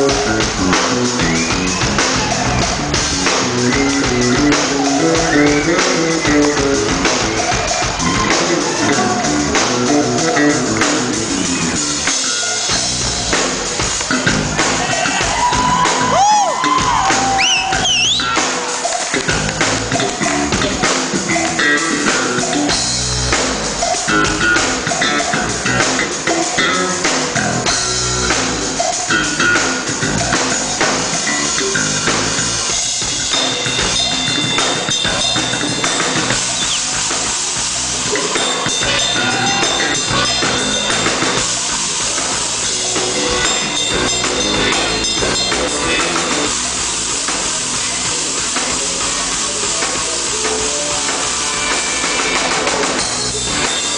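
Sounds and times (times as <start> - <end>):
electric bass solo: 0.0 - 18.4, 19.2 - 53.9
drum kit: 0.0 - 53.9.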